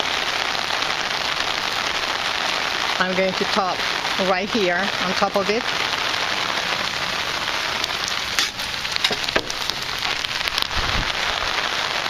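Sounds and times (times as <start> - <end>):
heavy rain pouring: 0.0 - 12.0
rain drop clicks: 0.0 - 12.0.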